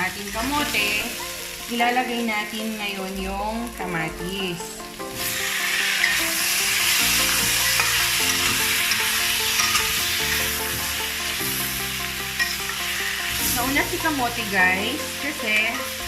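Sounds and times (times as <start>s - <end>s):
background music: 0.0s - 16.0s
vegetables sizzling in a pan: 0.0s - 16.0s.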